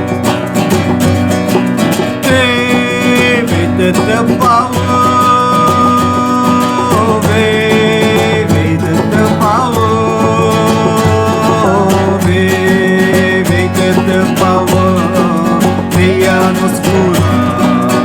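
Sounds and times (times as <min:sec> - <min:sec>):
held melody notes: 0:00.0 - 0:18.0
strummed acoustic guitar: 0:00.0 - 0:18.0.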